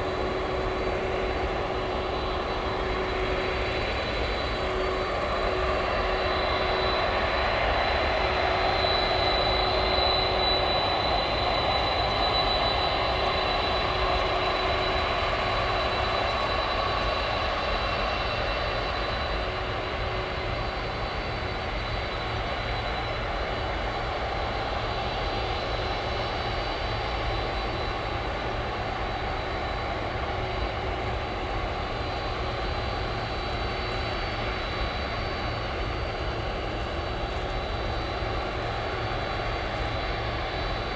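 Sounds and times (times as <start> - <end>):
jet engines taxiing: 0.0 - 40.9.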